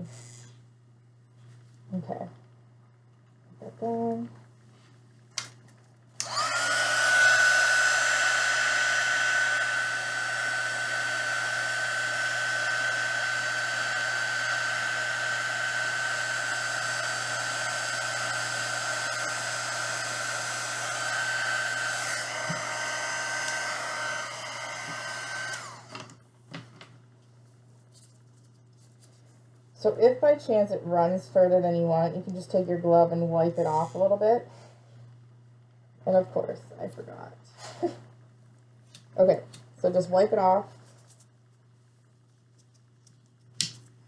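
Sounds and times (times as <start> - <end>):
heat gun fan whine: 5.2 - 41.6.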